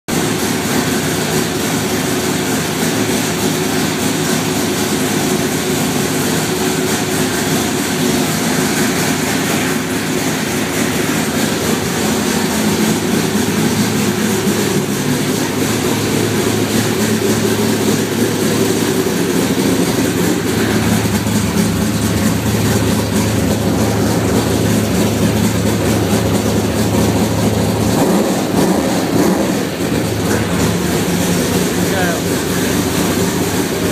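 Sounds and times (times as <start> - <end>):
race car engine idling: 0.1 - 33.9.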